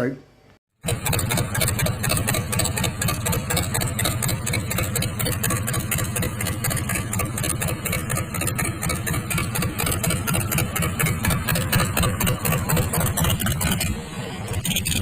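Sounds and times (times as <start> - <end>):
diesel engine idling: 0.8 - 15.0.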